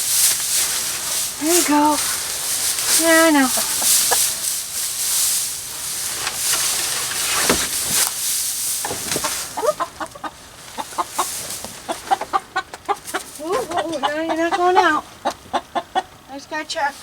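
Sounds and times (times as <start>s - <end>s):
noisy rustle: 0.0s - 13.8s
chickens clucking: 0.0s - 17.0s.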